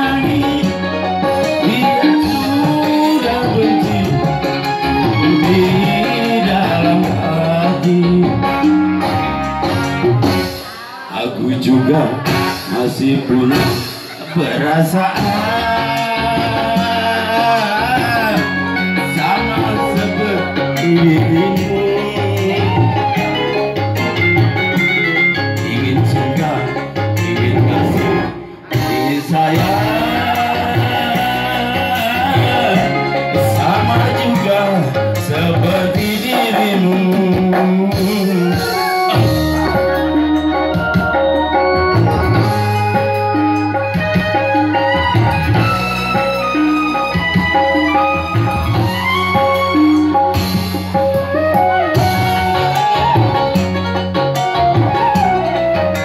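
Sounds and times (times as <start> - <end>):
drum rhythm: 0.0 - 56.0
keyboard and guitar accompaniment: 0.0 - 56.0
man singing into a microphone: 0.0 - 56.0.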